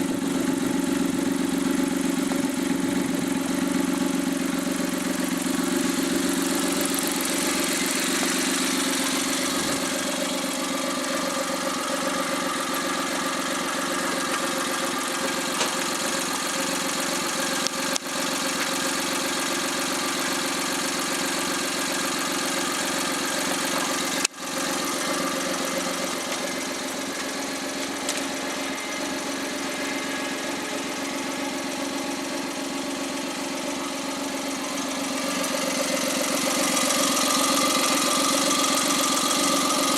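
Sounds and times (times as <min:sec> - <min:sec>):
turbo engine idling: 0:00.0 - 0:39.9.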